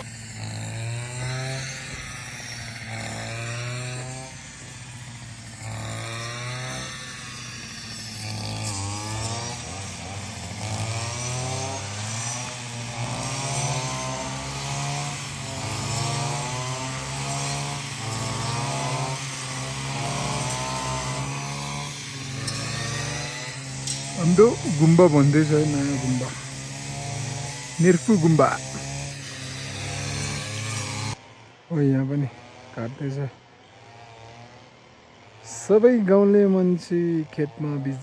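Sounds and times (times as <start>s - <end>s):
small petrol engine revving: 0.0s - 38.0s.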